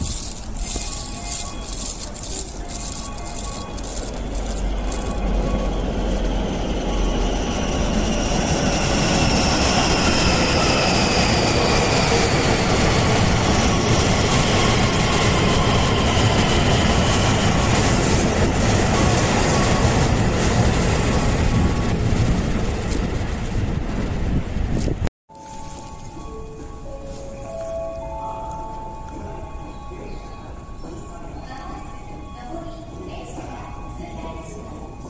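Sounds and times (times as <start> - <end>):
electric train passing: 0.0 - 24.8, 25.4 - 35.0.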